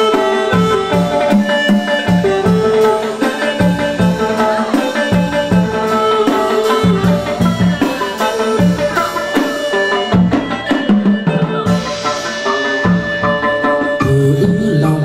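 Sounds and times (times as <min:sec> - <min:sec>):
drum beat: 0:00.0 - 0:15.0
plucked string melody: 0:00.0 - 0:15.0.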